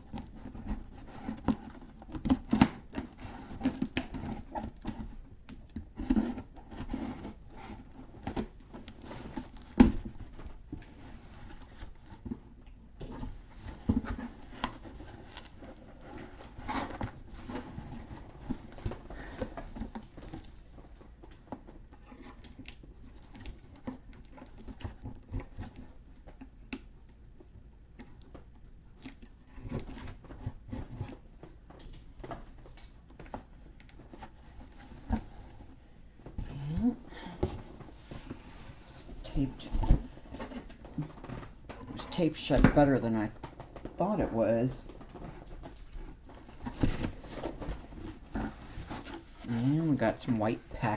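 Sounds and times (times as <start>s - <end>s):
package handled and opened: 0.0s - 50.9s.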